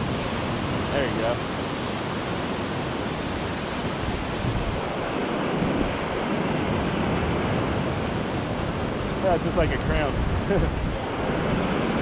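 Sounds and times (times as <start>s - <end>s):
ocean surf breaking on beach: 0.0s - 12.0s
wind buffeting microphone: 0.0s - 12.0s.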